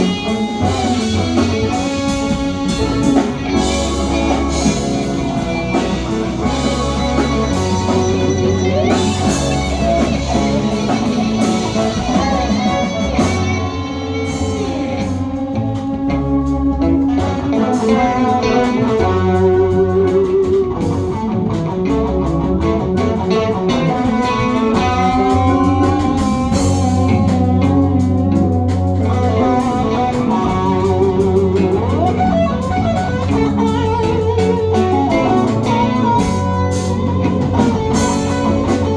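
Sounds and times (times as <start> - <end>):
bass guitar: 0.0 - 38.9
drums: 0.0 - 38.9
electric guitar: 0.0 - 38.9.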